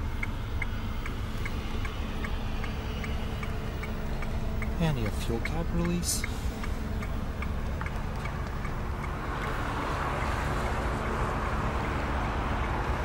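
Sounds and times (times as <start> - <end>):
car engine idling: 0.0 - 13.0
light even ticking: 0.0 - 13.0.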